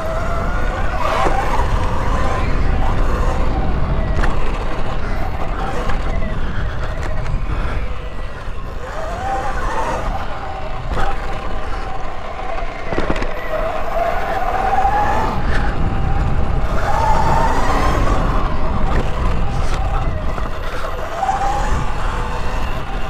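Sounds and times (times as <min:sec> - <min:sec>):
electric motor whine: 0:00.0 - 0:23.0
wind buffeting on microphone: 0:00.0 - 0:23.0.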